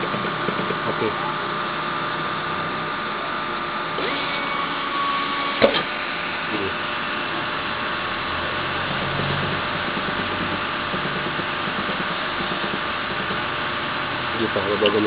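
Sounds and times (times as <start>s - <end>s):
cutting plotter motors humming: 0.0s - 15.0s.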